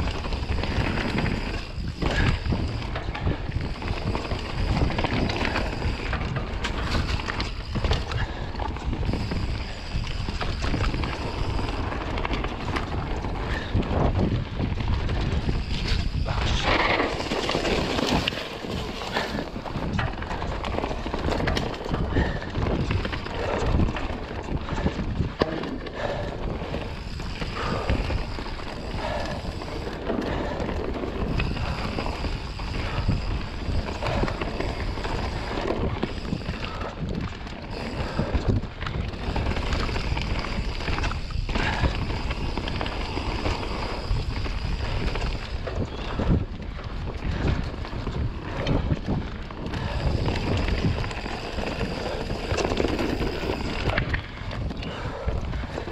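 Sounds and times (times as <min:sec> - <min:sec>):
bike rattling and knocking: 0:00.0 - 0:55.9
bike tyres rolling on dirt: 0:00.0 - 0:55.9
wind on microphone: 0:00.0 - 0:55.9.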